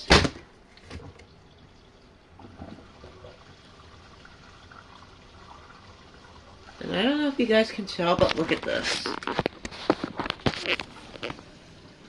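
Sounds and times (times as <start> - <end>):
water trickling out: 1.1 - 12.0.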